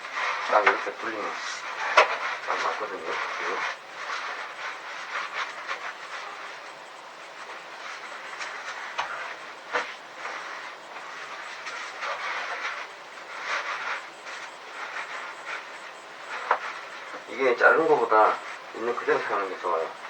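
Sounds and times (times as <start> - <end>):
material scraping and rustling: 0.0 - 20.0.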